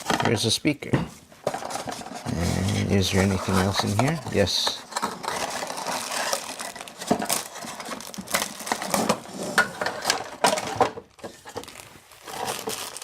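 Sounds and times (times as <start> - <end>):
hands rummaging in cardboard box: 1.4 - 13.0
packaging rustling: 1.5 - 13.0.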